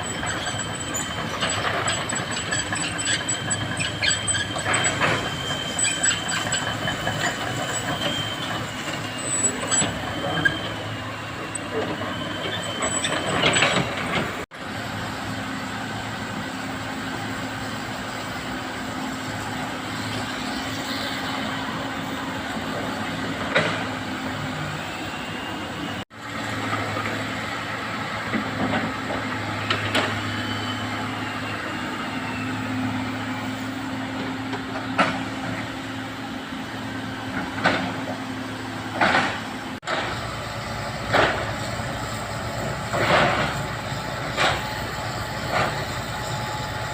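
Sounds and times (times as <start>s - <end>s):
metallic clanks and squeals: 0.0s - 14.5s, 15.5s - 26.0s, 28.1s - 46.9s
excavator engine humming: 0.0s - 46.9s.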